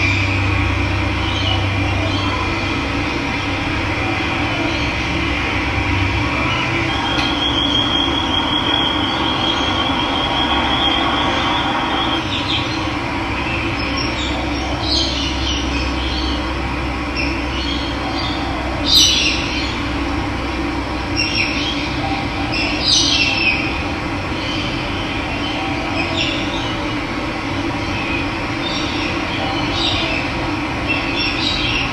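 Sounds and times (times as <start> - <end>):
birds trilling and chirping: 0.0 - 31.9.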